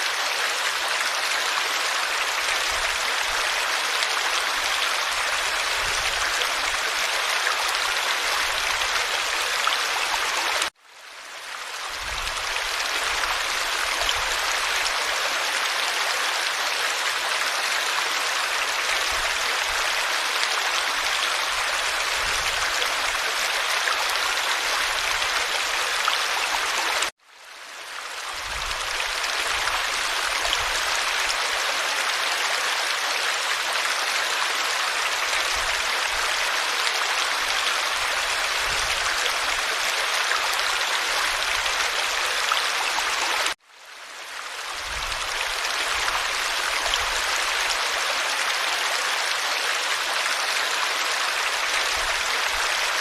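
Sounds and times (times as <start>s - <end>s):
forest stream flowing: 0.0s - 53.0s.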